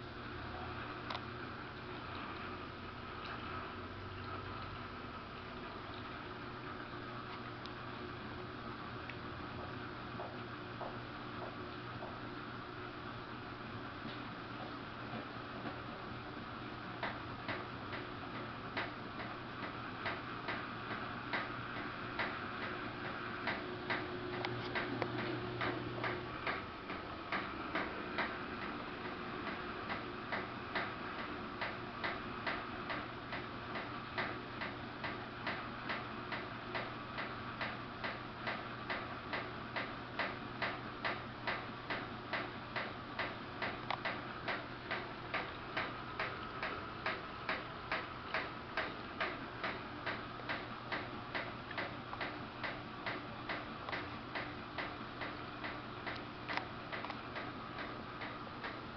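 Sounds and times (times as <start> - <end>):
washing machine humming and ticking: 0.0 - 58.9.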